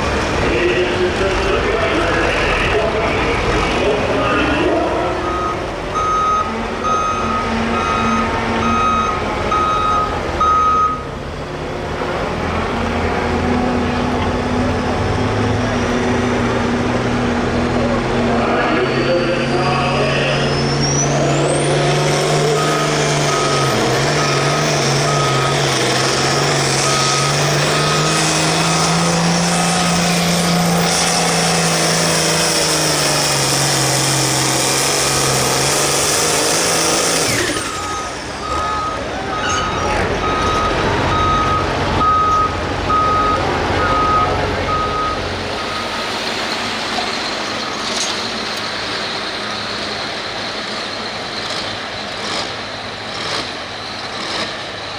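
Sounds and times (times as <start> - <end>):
tractor diesel engine at full throttle: 0.0 - 54.9.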